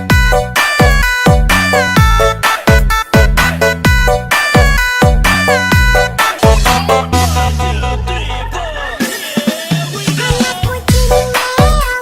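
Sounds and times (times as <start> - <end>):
electronic music with drums: 0.0 - 12.0.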